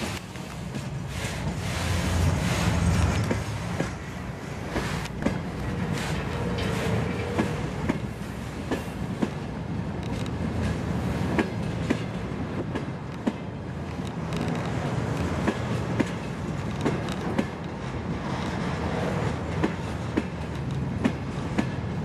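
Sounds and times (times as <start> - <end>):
wheels clicking over rail joints: 0.0 - 22.0.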